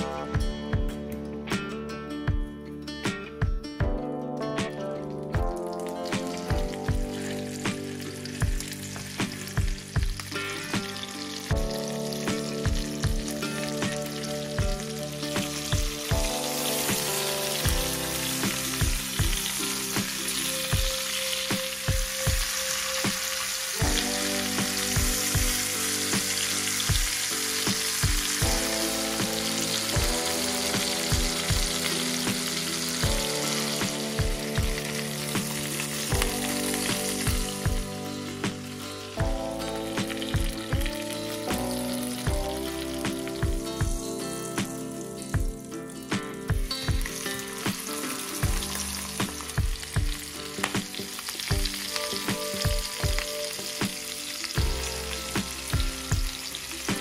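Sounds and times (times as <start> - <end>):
background music: 0.0 - 57.0
chicken sizzling in a frying pan: 5.4 - 57.0.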